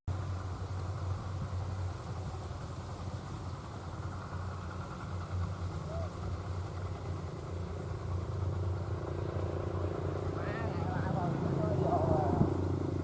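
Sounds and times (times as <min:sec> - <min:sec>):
tractor engine droning: 0:00.1 - 0:13.0.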